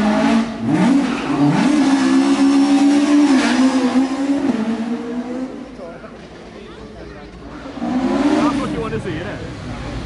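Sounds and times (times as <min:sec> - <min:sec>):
rally car engine accelerating: 0:00.0 - 0:10.0.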